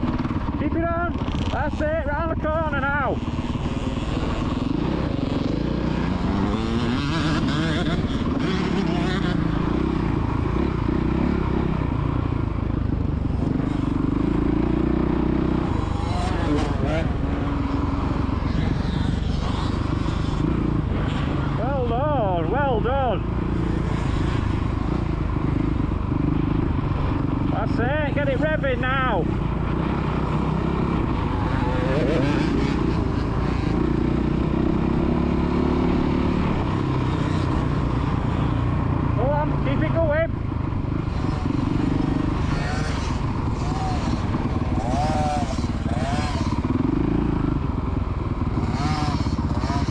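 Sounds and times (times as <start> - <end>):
dirt bike engine under throttle: 0.0 - 49.9.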